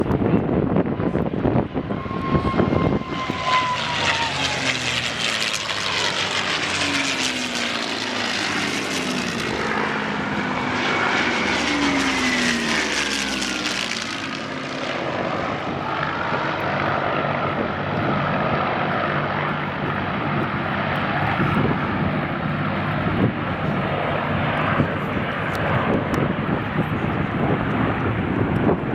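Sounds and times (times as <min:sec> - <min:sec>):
propeller aircraft flying past: 0:00.0 - 0:28.9.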